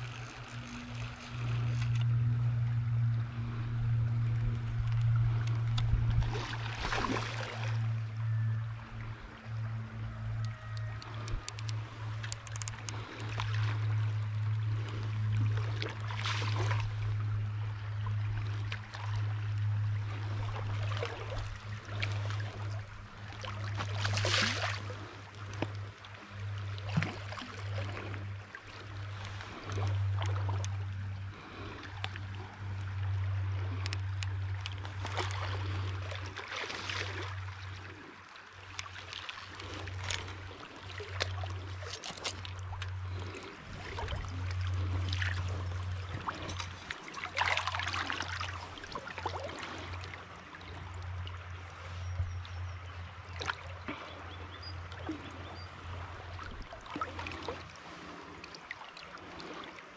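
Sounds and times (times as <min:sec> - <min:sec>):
low hum: 0:00.0 - 0:59.9
river water trickling: 0:00.0 - 0:59.9
water splashes: 0:00.0 - 0:59.9.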